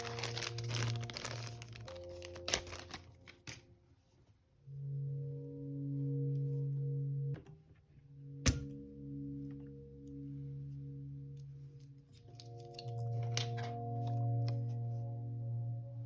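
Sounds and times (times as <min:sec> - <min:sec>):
soft low sustained background music: 0:00.0 - 0:16.0.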